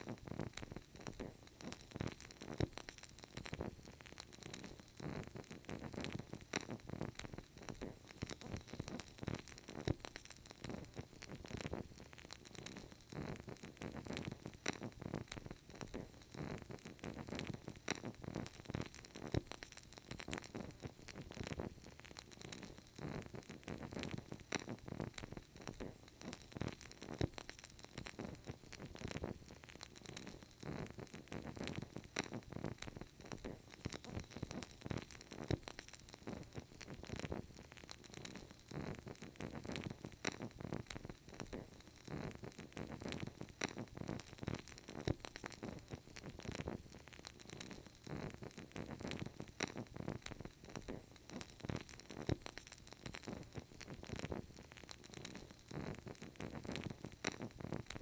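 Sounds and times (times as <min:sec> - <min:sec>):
candle crackling: 0:00.0 - 0:58.0.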